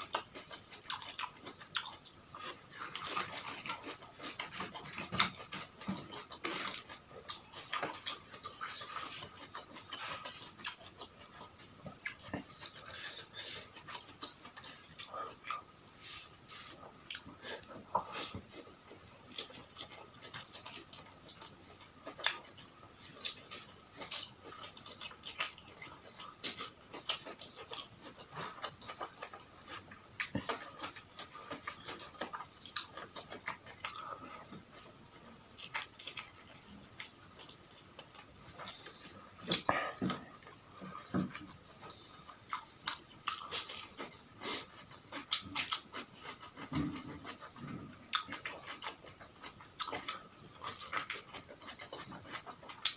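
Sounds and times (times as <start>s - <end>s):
person chewing and smacking food: 0.0s - 52.9s.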